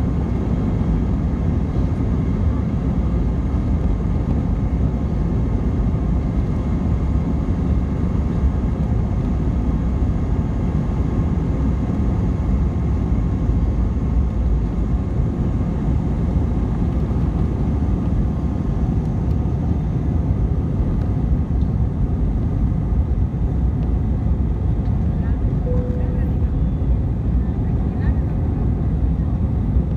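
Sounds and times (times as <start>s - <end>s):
airliner cabin rumble: 0.0s - 29.9s.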